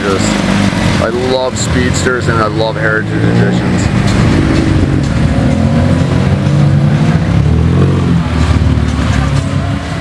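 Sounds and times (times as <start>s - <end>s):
sports car engines pulling away: 0.0s - 10.0s.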